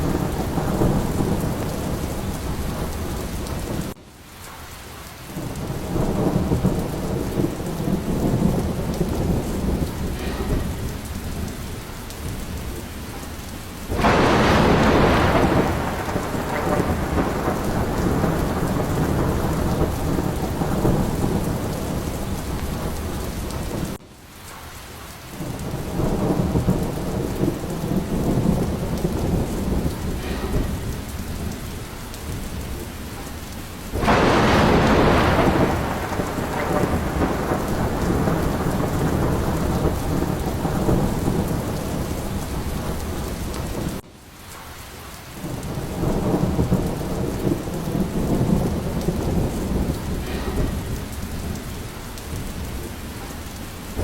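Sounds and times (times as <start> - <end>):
rolling thunder: 0.0 - 4.0, 5.3 - 24.0, 25.3 - 44.0, 45.4 - 54.0
sharp thunderclap: 0.0 - 4.0, 5.4 - 24.0, 25.4 - 44.0, 45.4 - 54.0
heavy rain: 0.0 - 54.0.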